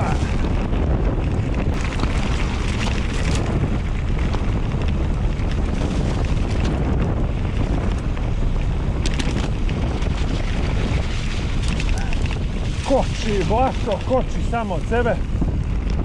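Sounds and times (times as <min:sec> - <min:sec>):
bike clicks and rattles: 0:00.0 - 0:16.0
tyres rolling through mud and gravel: 0:00.0 - 0:16.0
wind buffeting microphone: 0:00.0 - 0:16.0.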